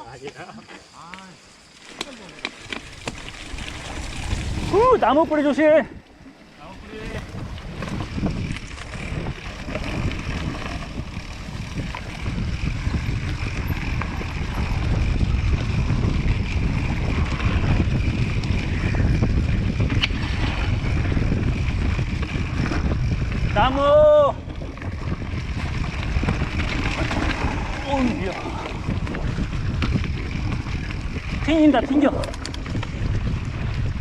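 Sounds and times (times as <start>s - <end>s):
mountain bike tyres rumbling: 0.0s - 34.0s
wind rushing over microphone: 2.6s - 34.0s.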